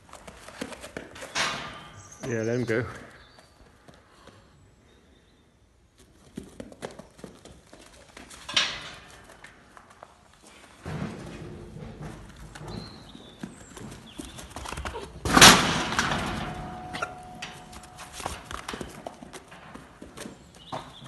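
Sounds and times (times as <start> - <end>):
hooves clicking and thudding: 0.0 - 5.0, 5.8 - 21.0
animal bumping metal hurdles: 0.2 - 3.2, 6.4 - 21.0.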